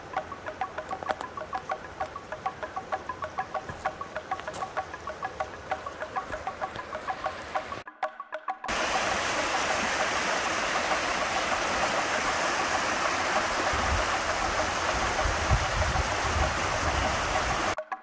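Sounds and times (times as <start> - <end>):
river rapids rushing: 0.0 - 7.8, 8.7 - 17.8.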